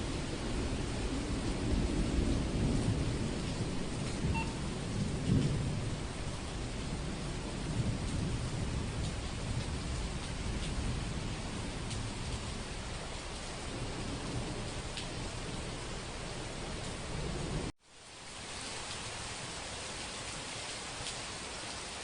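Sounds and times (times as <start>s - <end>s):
thunder rumbling: 0.0s - 17.7s
heavy rain falling: 0.0s - 22.0s.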